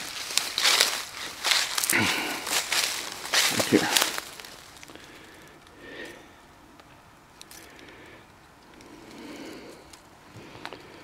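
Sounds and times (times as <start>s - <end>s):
dry grass rustling: 0.0s - 11.0s.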